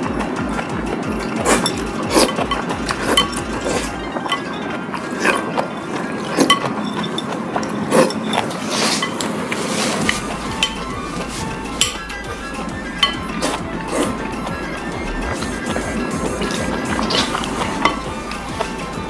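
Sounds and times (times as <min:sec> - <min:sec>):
chopsticks clicking against bowls: 0:00.0 - 0:19.0
noodles being slurped: 0:00.0 - 0:19.0.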